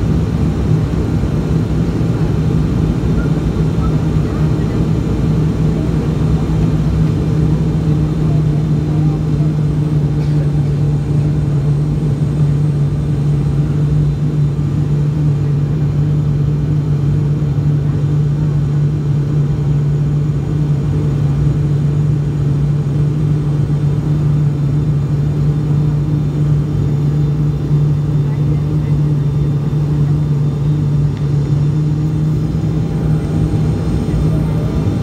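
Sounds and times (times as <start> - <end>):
turboprop engine drone in cabin: 0.0 - 35.0.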